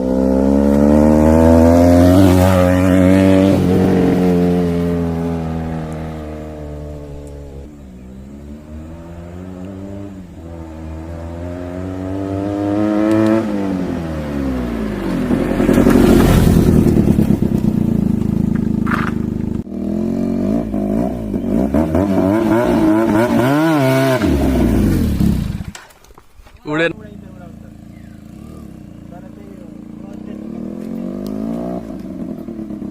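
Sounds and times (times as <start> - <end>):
motorcycle engine accelerating: 0.0 - 25.8, 26.7 - 32.9.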